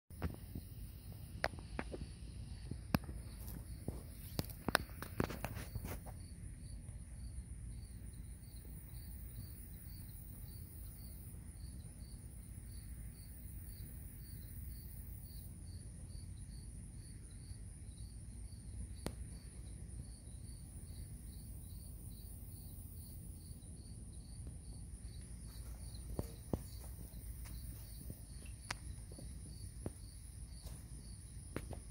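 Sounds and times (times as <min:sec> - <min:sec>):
insects chirping: 0:00.1 - 0:31.9.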